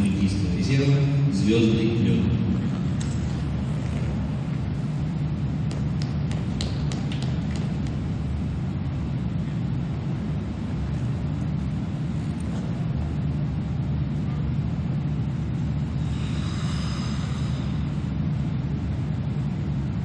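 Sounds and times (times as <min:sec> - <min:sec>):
air handling hum: 0:00.0 - 0:20.0.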